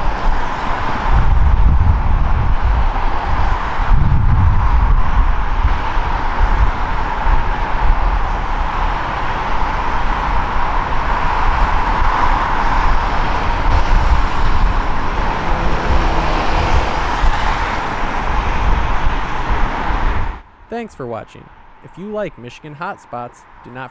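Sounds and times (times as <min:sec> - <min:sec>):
rumble of moving vehicles: 0:00.0 - 0:23.9.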